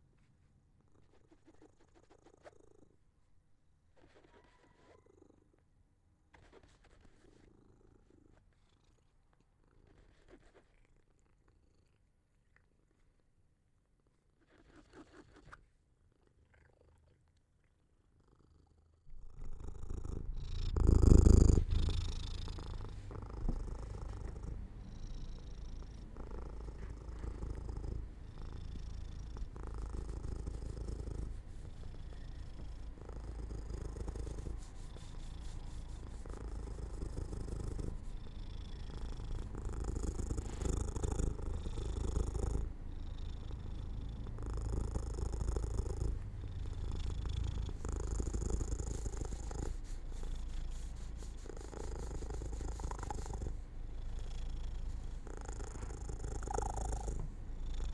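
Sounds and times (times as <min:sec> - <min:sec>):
cat purring: 0:00.0 - 0:03.2, 0:06.3 - 0:13.2, 0:14.0 - 0:57.9.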